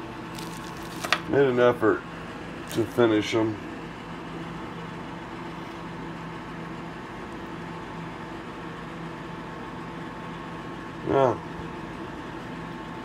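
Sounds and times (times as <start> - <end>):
machine or fan hum: 0.0 - 13.0.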